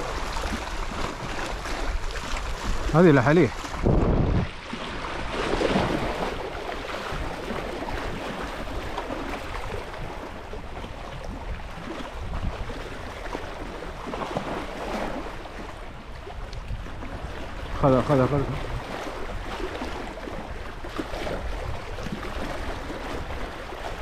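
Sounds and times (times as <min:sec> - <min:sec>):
sea water lapping at shore: 0:00.0 - 0:24.0
wind buffeting microphone: 0:00.0 - 0:24.0.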